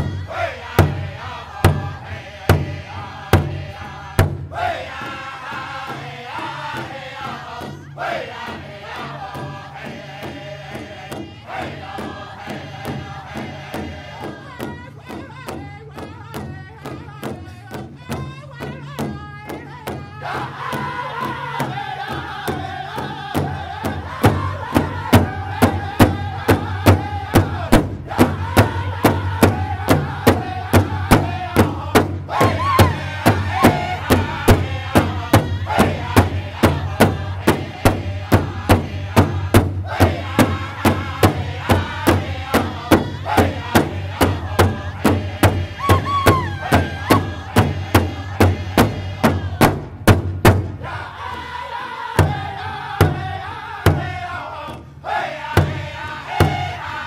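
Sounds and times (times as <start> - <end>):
drum beat: 0.0 - 51.6, 52.2 - 54.2, 55.5 - 57.0
high voices singing together: 0.0 - 57.0.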